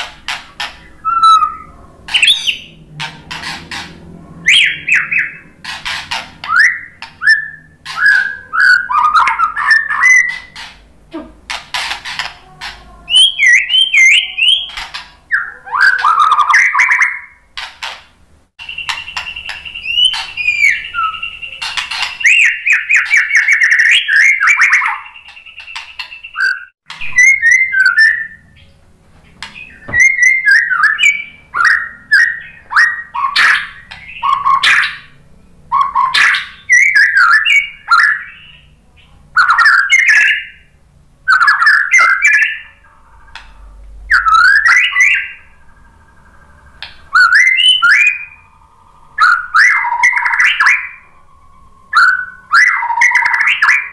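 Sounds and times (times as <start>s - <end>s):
bird singing trills and whistles: 0.0s - 10.8s, 11.7s - 18.0s, 18.6s - 28.8s, 29.4s - 53.9s.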